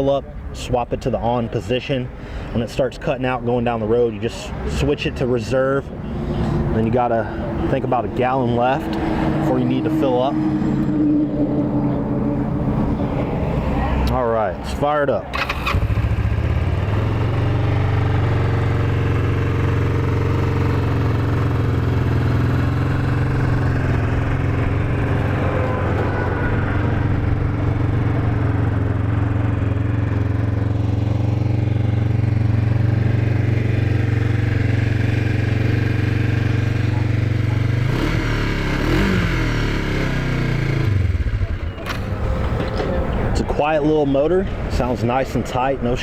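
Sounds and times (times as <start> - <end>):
motorcycle engine idling and revving: 2.8 - 46.0.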